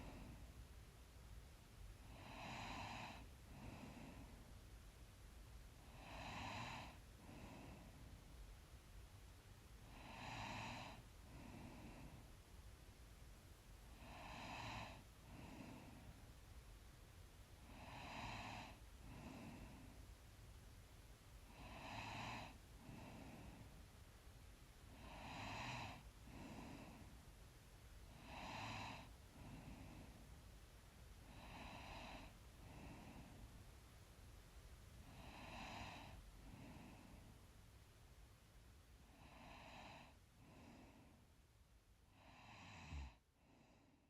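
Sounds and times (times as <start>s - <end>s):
person breathing asleep: 0.0s - 0.8s, 1.9s - 5.0s, 5.7s - 9.0s, 9.6s - 12.7s, 13.8s - 20.5s, 21.3s - 33.9s, 34.8s - 37.5s, 38.9s - 44.0s.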